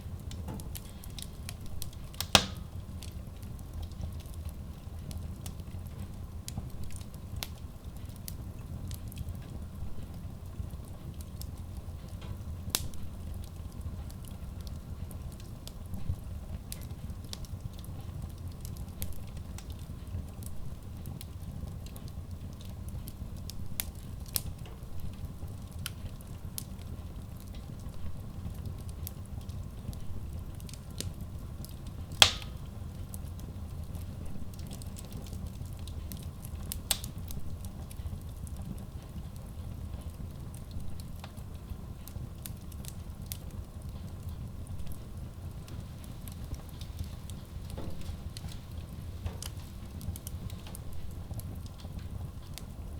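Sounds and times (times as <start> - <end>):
low rumble of flames: 0.0 - 52.9
wood crackles and pops: 0.0 - 52.9.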